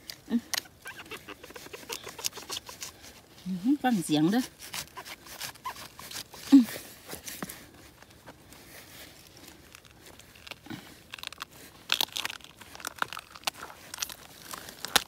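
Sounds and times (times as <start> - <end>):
crisp crunching and crackling: 0.0 - 15.0.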